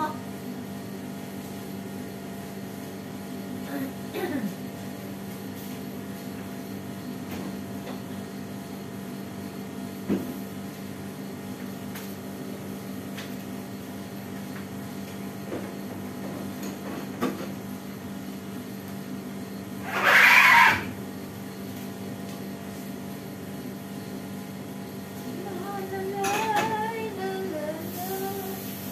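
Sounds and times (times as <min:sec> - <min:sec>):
appliance electrical hum: 0:00.0 - 0:28.9.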